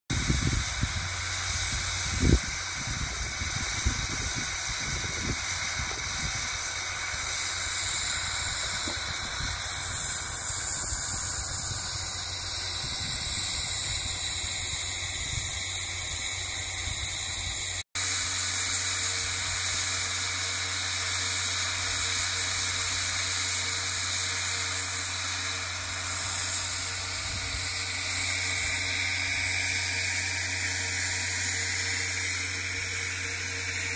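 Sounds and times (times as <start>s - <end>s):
steam hissing: 0.1s - 33.9s.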